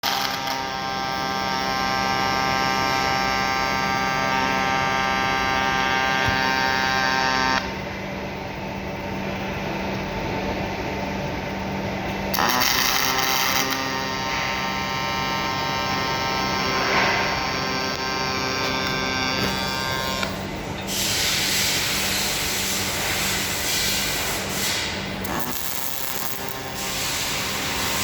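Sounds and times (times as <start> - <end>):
welding arc buzzing: 0.0 - 7.8, 11.6 - 28.0.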